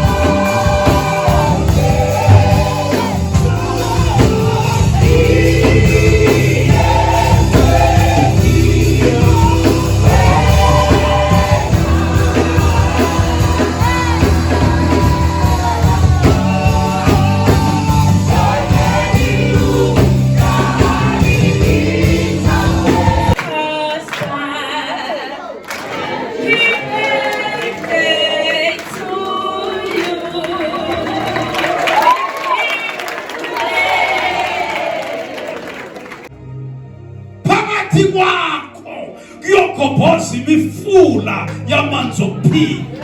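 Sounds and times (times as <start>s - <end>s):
song with singing and band: 0.0s - 35.2s.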